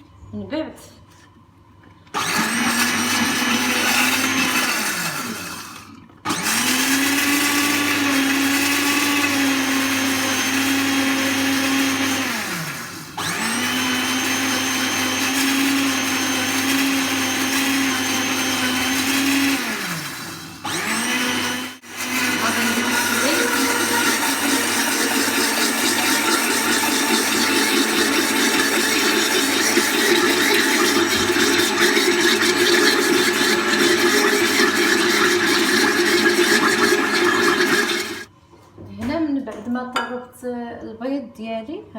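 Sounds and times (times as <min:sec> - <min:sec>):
electric mixer whine: 0:02.2 - 0:38.3.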